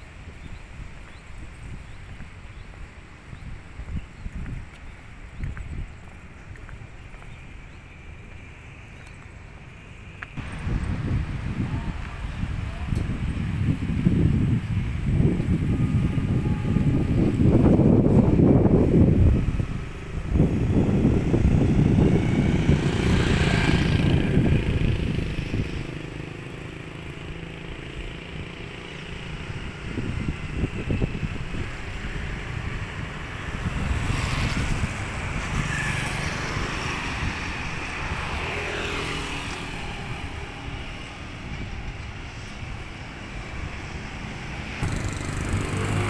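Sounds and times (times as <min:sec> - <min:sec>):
low traffic rumble: 0:00.0 - 0:46.0
motorcycles and cars passing: 0:00.0 - 0:46.0.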